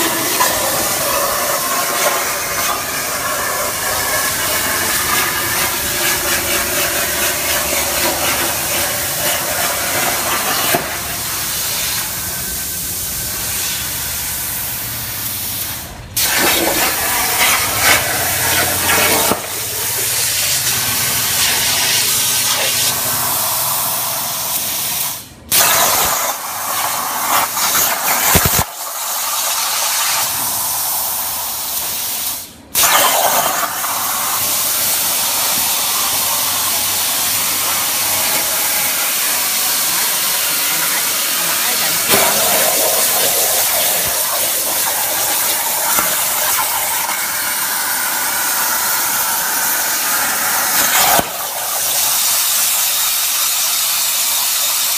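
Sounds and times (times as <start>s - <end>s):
plasma cutter hissing: 0.0s - 54.9s.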